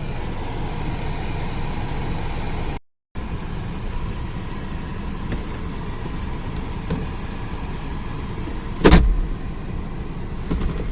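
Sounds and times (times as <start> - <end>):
car blower fan running: 0.0 - 10.9.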